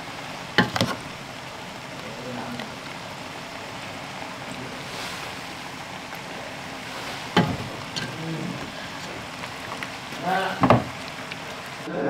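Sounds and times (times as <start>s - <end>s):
steady hissing: 0.0s - 12.0s.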